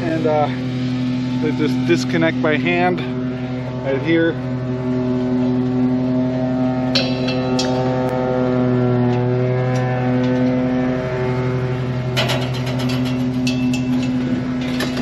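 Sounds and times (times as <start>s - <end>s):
lawnmower engine running: 0.0s - 15.0s.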